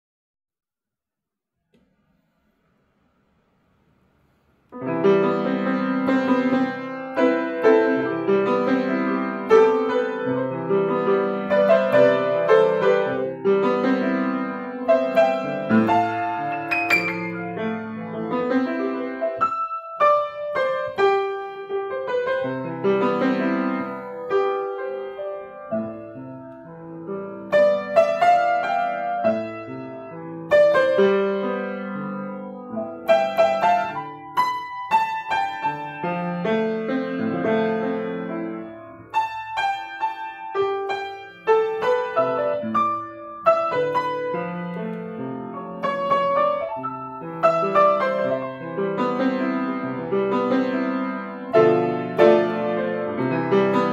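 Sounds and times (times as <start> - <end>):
grand piano playing: 4.7 - 53.9.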